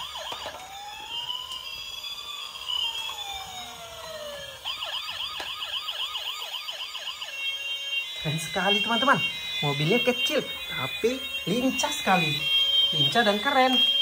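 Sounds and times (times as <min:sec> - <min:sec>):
toy police car siren: 0:00.0 - 0:14.0.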